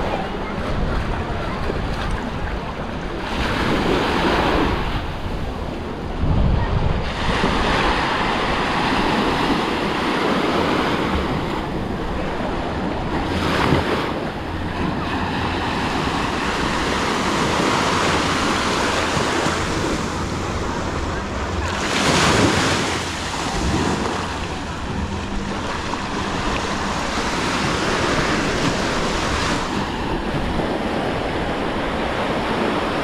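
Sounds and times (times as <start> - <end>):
waves washing onto sand: 0.0 - 33.0
wind buffeting microphone: 0.0 - 33.0.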